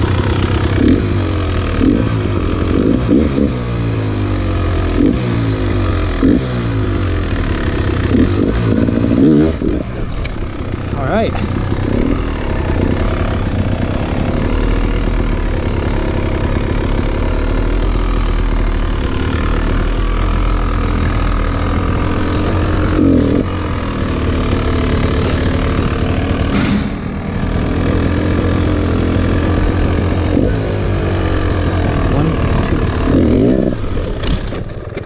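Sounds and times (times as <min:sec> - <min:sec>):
dirt bike engine idling: 0:00.0 - 0:35.0.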